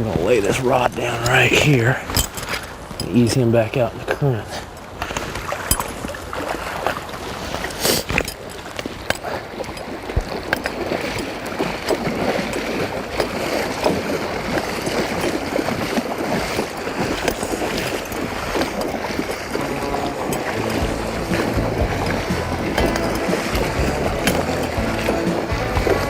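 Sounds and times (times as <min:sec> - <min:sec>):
river water splashing and gurgling: 0:00.0 - 0:26.0
water sloshing: 0:00.0 - 0:26.0.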